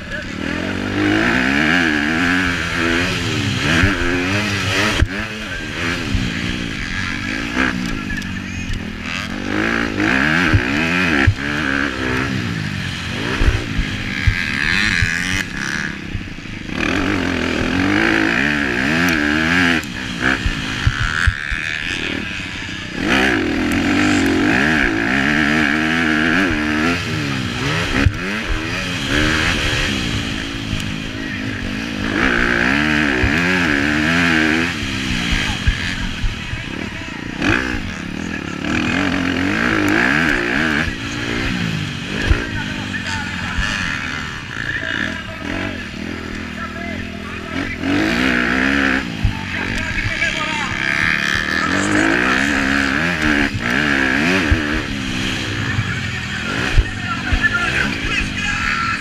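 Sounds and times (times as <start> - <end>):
motocross bike engine revving: 0.0 - 59.0
steady rushing noise: 0.0 - 59.0.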